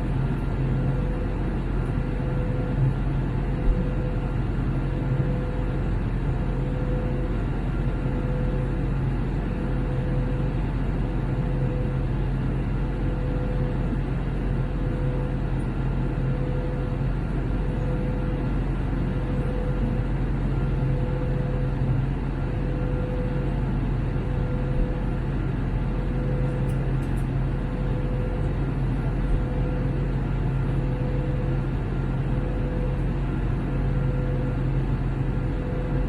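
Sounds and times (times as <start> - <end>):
jet engines droning: 0.0 - 36.0.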